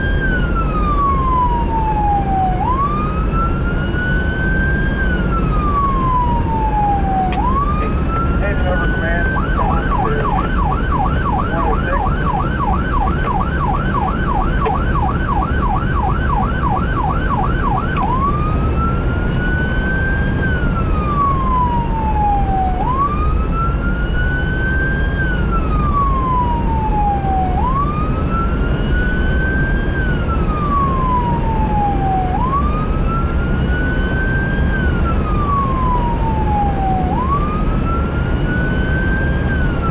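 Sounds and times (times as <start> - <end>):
emergency siren wailing and yelping: 0.0 - 39.9
heavy engine and road rumble: 0.0 - 39.9.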